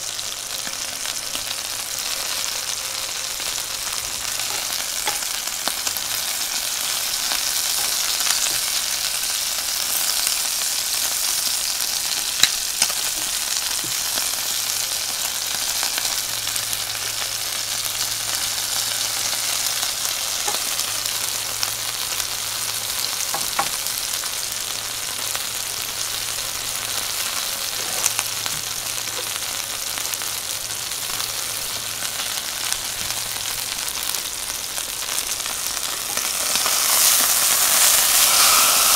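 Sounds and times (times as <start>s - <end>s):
steak sizzling in a skillet: 0.0s - 38.9s.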